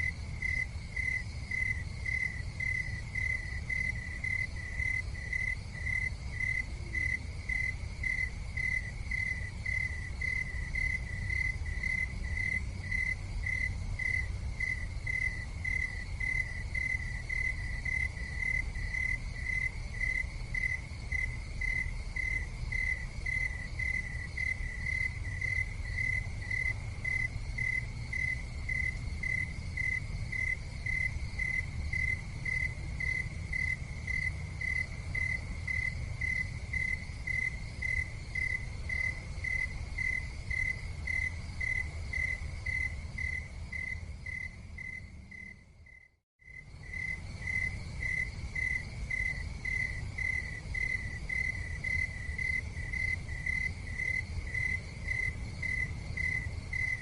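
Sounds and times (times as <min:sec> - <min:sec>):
cricket chirping: 0:00.0 - 0:57.0.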